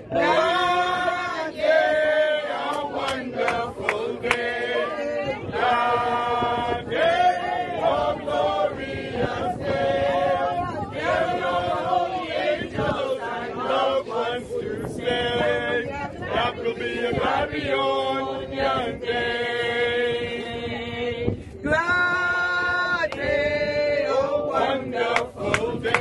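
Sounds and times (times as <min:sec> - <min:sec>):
group singing a hymn: 0:00.0 - 0:26.0.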